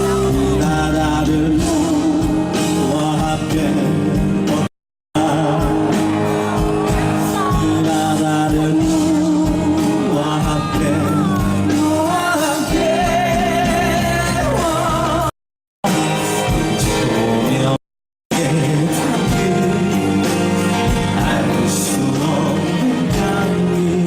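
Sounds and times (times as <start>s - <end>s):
live band playing with singing: 0.0s - 24.0s.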